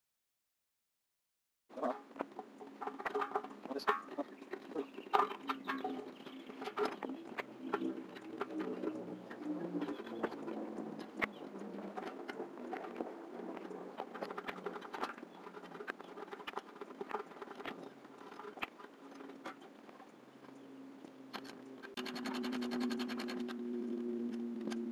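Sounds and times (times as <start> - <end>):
cable clicking and rustling: 1.8 - 24.9.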